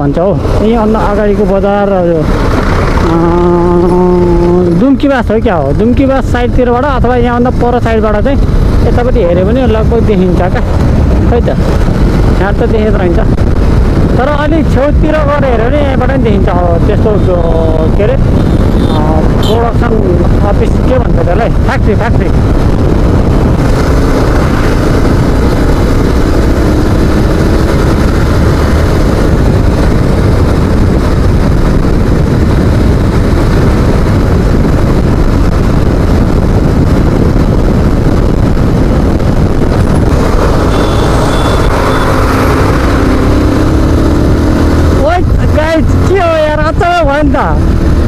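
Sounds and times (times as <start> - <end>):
motorcycle engine running: 0.0 - 48.0
wind rumble on microphone: 0.0 - 48.0.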